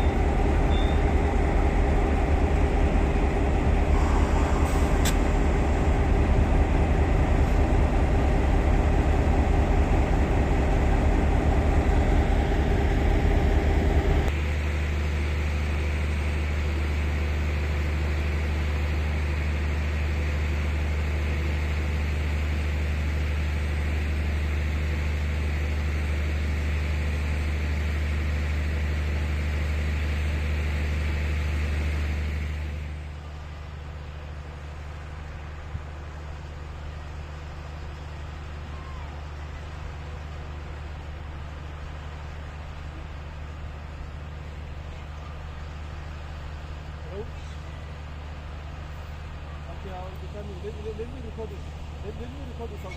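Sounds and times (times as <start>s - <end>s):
electrical hum and fan rush: 0.0s - 52.9s.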